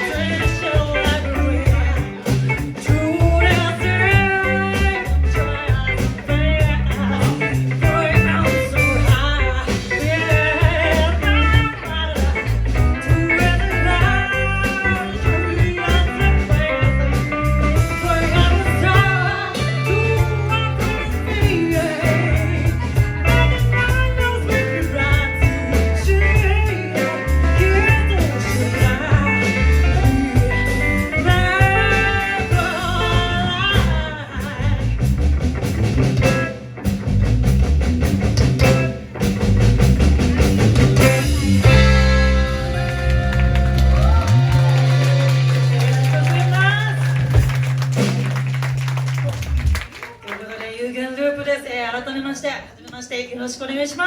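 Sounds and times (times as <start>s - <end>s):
steady bass line: 0.0s - 49.9s
bluesy guitar bending lines: 0.0s - 50.0s.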